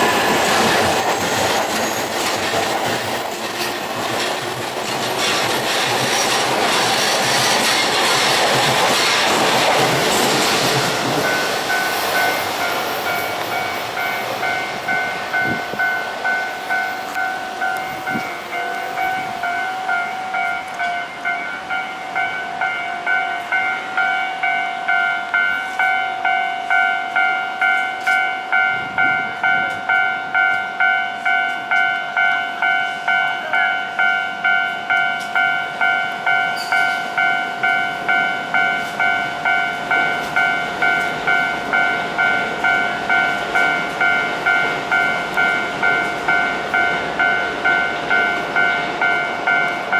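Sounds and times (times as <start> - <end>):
crossing warning bell ringing: 0.0 - 49.9
faint rail and city noise: 0.0 - 49.9.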